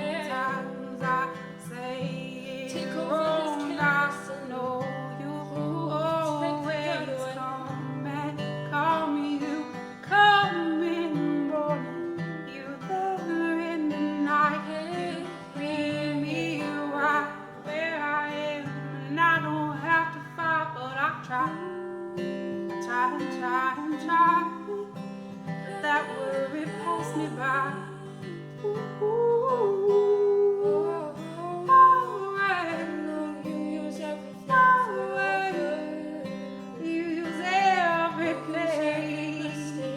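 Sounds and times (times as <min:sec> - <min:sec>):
person singing worship song: 0:00.0 - 0:39.9
strummed acoustic guitar: 0:00.0 - 0:39.9.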